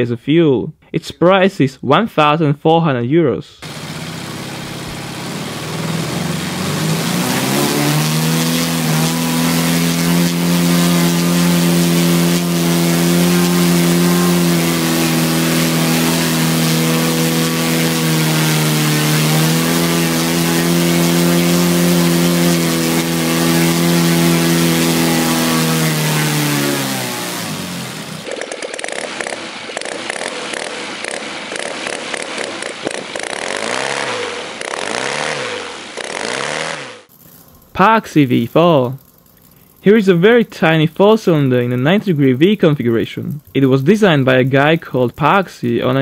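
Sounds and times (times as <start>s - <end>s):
model aircraft engine revving: 3.6s - 44.7s.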